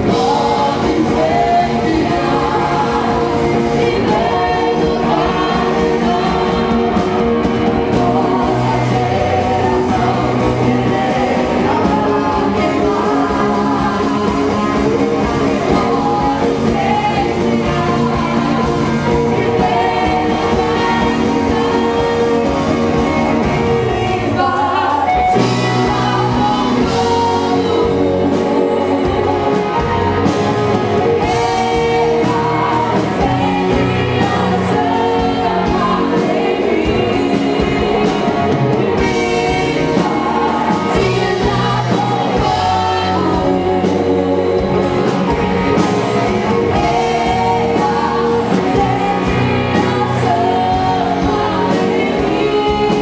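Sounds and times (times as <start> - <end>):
worship song sung over band: 0.0 - 53.0.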